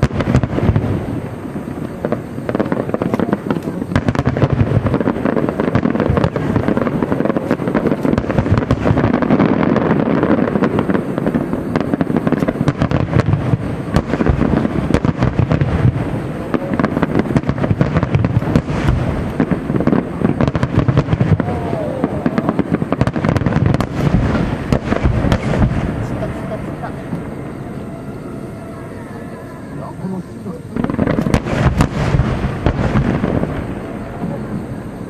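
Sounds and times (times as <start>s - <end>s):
firework shells bursting: 0.0s - 28.5s, 29.8s - 35.0s.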